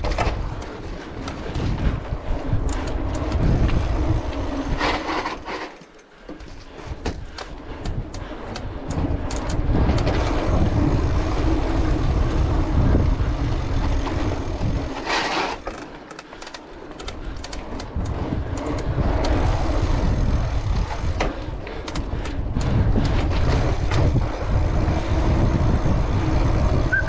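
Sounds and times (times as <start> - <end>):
wind buffeting microphone: 0.0 - 5.1, 6.9 - 15.0, 17.0 - 27.0
bike clicks and rattles: 0.0 - 27.0.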